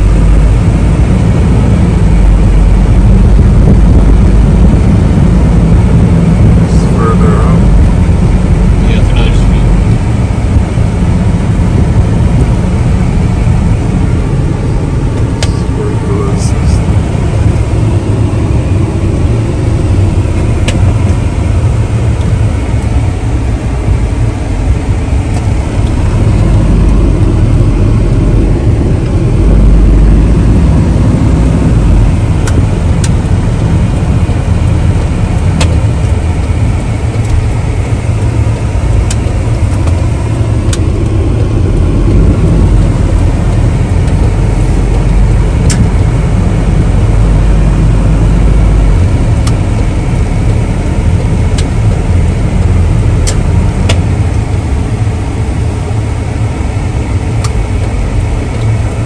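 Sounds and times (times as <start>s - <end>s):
truck engine rumble: 0.0s - 59.0s.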